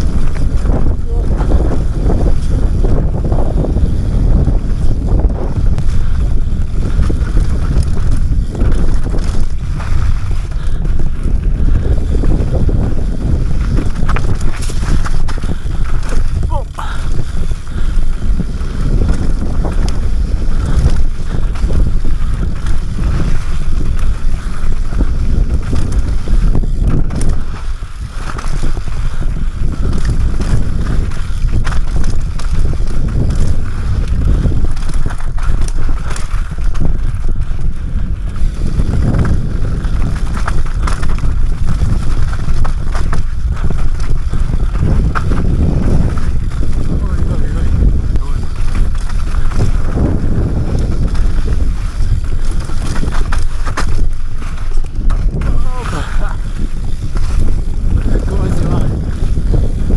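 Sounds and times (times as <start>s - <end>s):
bike knocks and rattles: 0.0s - 59.9s
tyres rumbling on dirt and rock: 0.0s - 59.9s
wind buffeting microphone: 0.0s - 59.9s.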